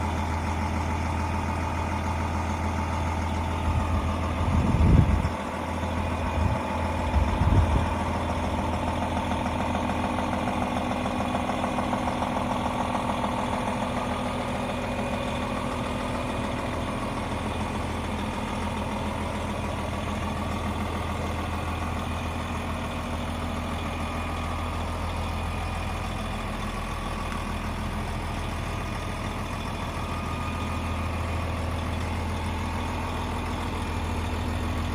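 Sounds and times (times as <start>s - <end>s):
diesel truck idling: 0.0s - 34.9s.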